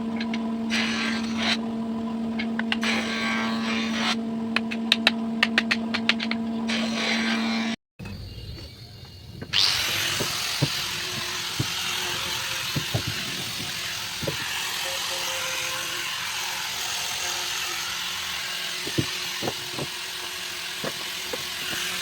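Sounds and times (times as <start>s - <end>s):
power tool whirring: 0.0s - 7.8s, 9.3s - 22.0s.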